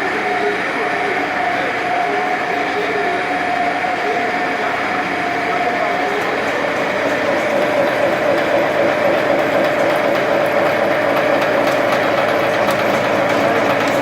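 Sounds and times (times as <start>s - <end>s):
dense machine noise: 0.0s - 14.0s
machine whine: 0.0s - 14.0s.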